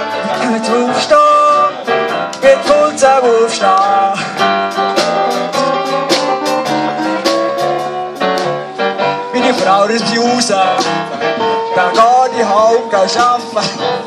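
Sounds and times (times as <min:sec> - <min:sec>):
drum kit: 0:00.0 - 0:14.0
strummed guitar: 0:00.0 - 0:14.0.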